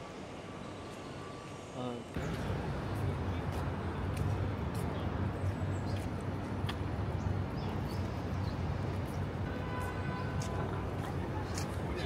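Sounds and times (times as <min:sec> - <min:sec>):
deep rumble of traffic: 0:02.1 - 0:12.0.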